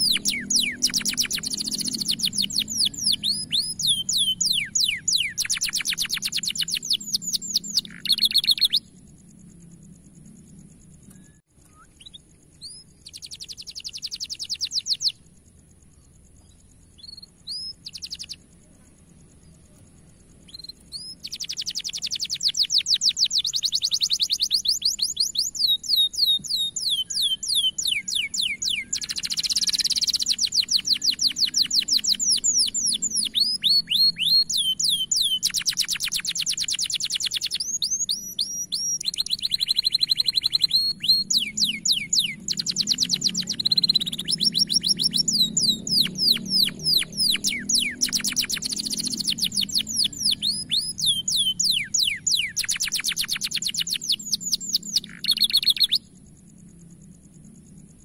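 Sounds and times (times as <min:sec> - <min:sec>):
canary singing trills: 0:00.0 - 0:56.2.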